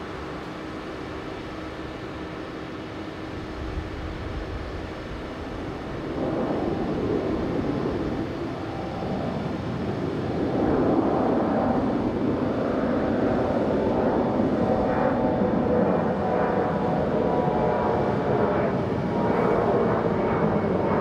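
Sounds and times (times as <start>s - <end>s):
jet engines at taxi power: 0.0s - 21.0s.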